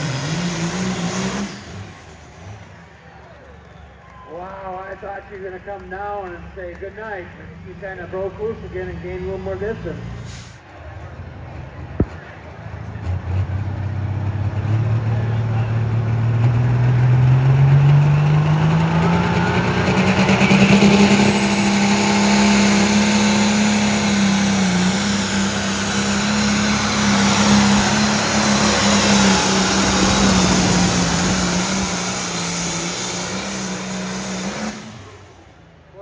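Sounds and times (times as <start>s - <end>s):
diesel tractor engine at full throttle: 0.0s - 36.0s.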